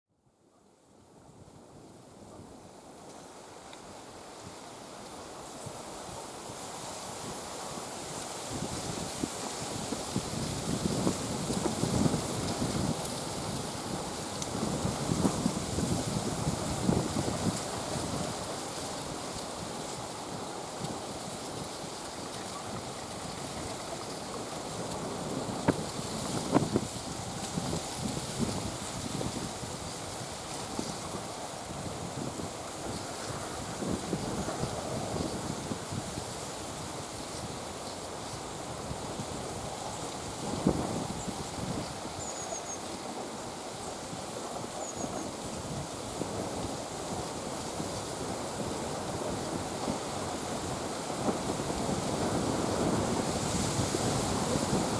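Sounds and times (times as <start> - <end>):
wind on microphone: 6.9 - 54.9.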